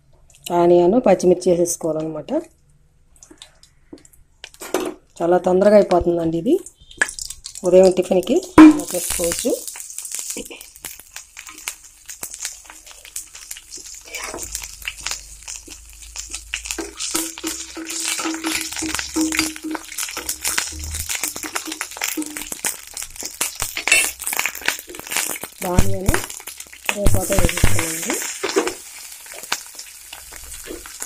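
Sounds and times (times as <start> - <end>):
seeds crackling in hot oil: 3.2 - 31.0.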